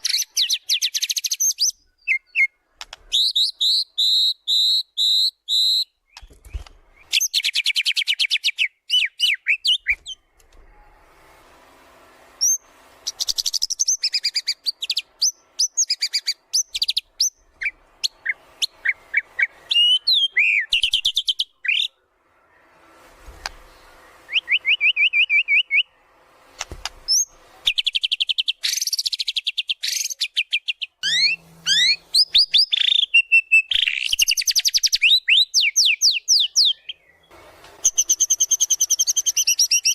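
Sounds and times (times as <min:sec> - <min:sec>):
bird singing varied song: 0:00.0 - 0:10.3, 0:12.4 - 0:22.0, 0:23.4 - 0:26.0, 0:27.1 - 0:39.9.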